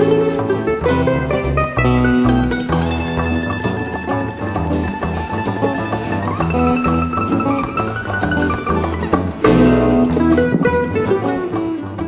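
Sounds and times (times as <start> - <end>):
bass line: 0.0 - 12.0
plucked strings melody: 0.0 - 12.0.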